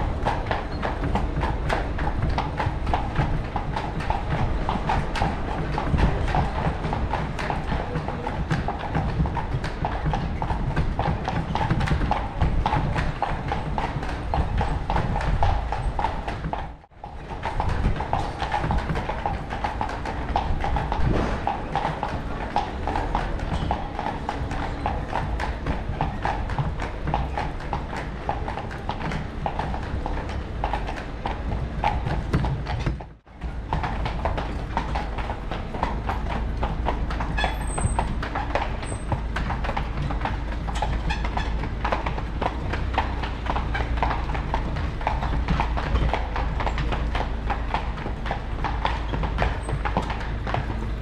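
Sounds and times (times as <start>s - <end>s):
horse hooves clip-clopping: 0.0s - 51.0s.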